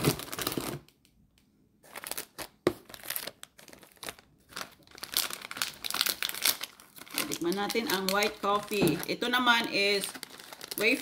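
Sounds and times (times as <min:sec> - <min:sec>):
foil wrapper crinkling and tearing: 0:00.0 - 0:01.0, 0:01.8 - 0:11.0.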